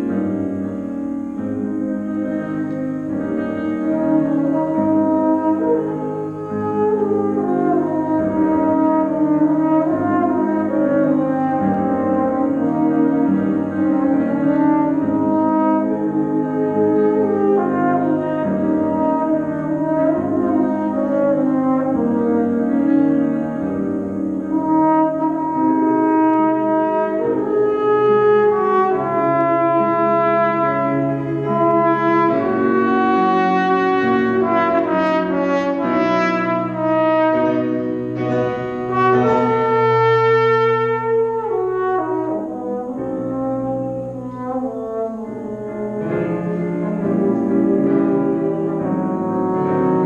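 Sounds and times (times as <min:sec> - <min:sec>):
grand piano accompaniment: 0:00.0 - 0:50.0
trumpet melody: 0:00.0 - 0:50.0.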